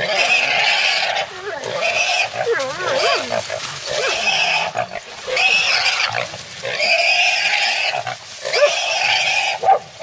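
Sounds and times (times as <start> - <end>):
boar squealing loudly: 0.0 - 9.8.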